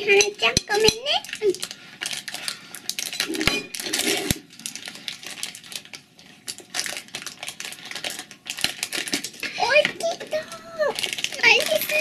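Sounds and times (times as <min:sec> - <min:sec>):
plastic wrapper crinkling: 0:00.1 - 0:12.0.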